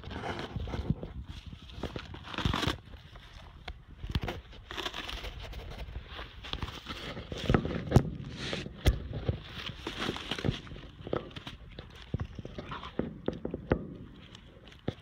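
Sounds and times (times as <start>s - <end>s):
cardboard crackling and ripping: 0.0s - 13.0s.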